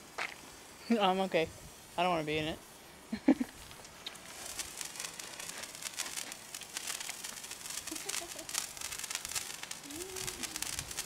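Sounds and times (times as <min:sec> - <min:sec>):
sparklers crackling: 0:00.0 - 0:11.0.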